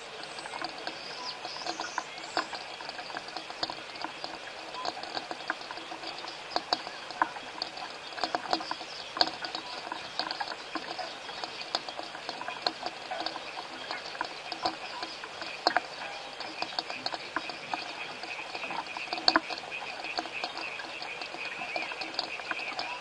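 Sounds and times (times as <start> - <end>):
raindrops tapping close: 0.0 - 23.0.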